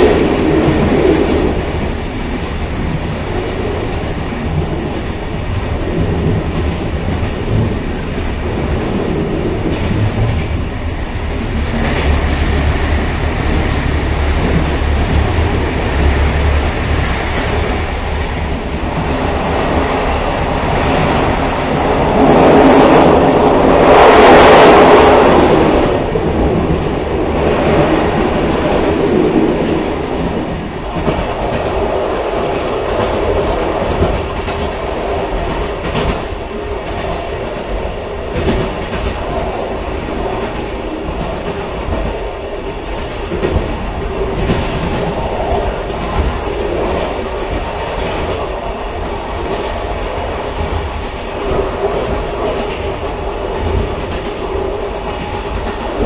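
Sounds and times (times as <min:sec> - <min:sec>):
railcar wheels rumbling on rails: 0:00.0 - 0:56.0.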